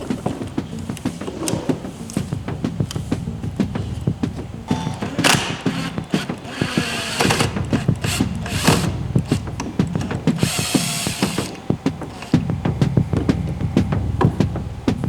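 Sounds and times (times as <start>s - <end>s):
sharp clicks and knocks: 0.0s - 15.0s
tool whirring: 0.0s - 15.0s.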